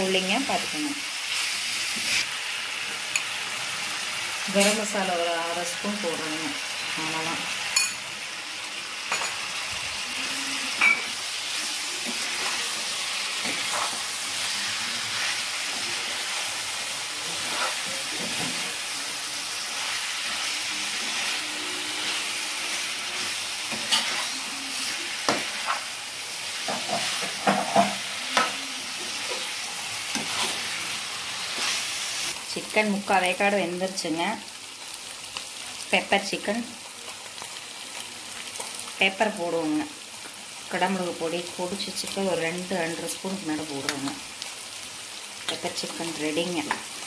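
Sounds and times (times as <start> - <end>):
chicken sizzling in oil: 0.0 - 47.0.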